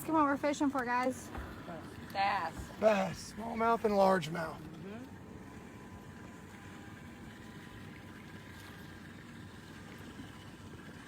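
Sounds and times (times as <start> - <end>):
boat engine rumble and hiss: 0.0 - 11.0
faint high hum: 0.0 - 11.0.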